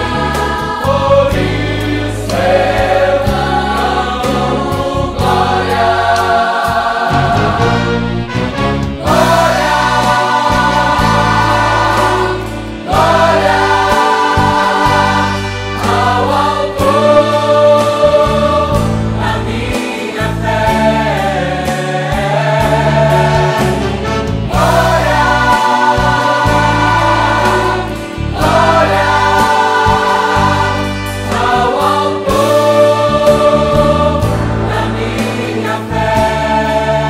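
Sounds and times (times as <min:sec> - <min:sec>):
vocal ensemble singing a hymn: 0:00.0 - 0:37.0.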